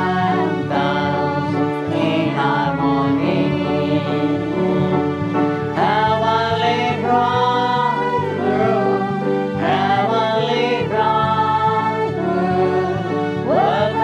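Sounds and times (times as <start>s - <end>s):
instrumental accompaniment: 0.0s - 14.0s
voices singing a hymn: 0.0s - 14.0s.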